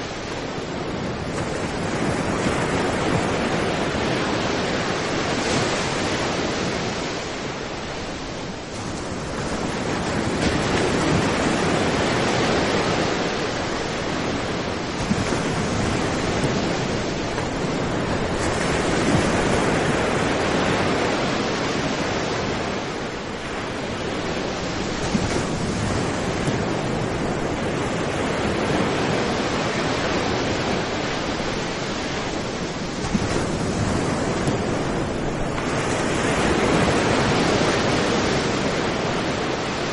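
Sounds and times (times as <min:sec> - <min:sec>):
surf washing on beach: 0:00.0 - 0:39.9.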